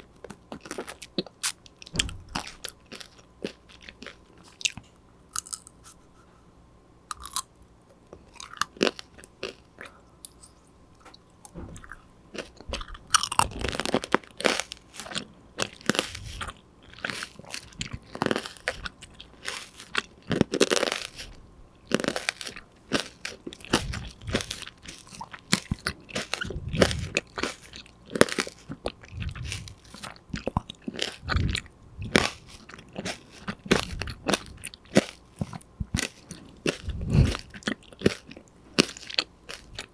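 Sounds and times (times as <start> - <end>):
crunching and chewing snack: 0.0 - 6.3, 7.1 - 39.9.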